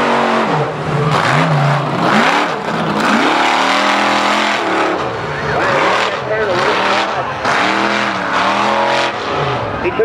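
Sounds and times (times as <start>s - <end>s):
truck engine revving hard: 0.0s - 10.0s.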